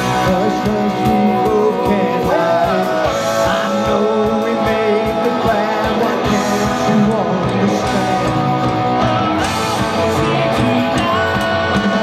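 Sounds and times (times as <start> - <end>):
bass guitar: 0.0 - 12.0
drum kit beat: 0.0 - 12.0
electric guitars: 0.0 - 12.0.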